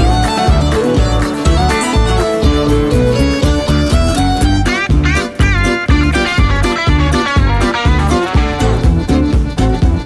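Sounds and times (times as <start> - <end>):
fiddle-led tune over a beat: 0.0 - 10.0.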